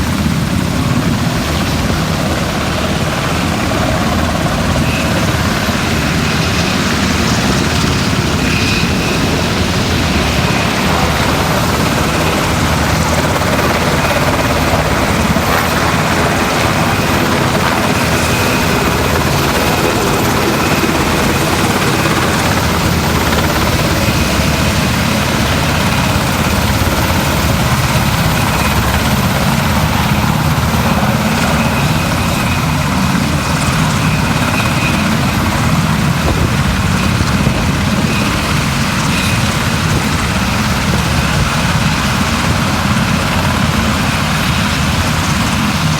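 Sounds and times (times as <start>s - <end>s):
helicopter rotor and engine: 0.0s - 45.9s.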